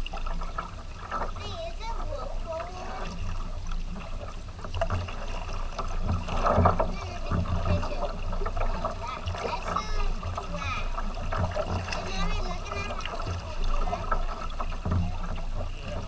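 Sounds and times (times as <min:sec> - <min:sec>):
paddle strokes splashing: 0:00.0 - 0:16.0
water swishing along hull: 0:00.0 - 0:16.0.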